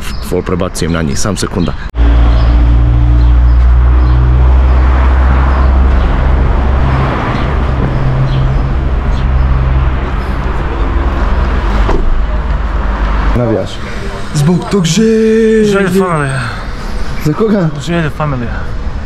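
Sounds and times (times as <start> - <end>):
vehicle engine idling: 2.0 - 19.0.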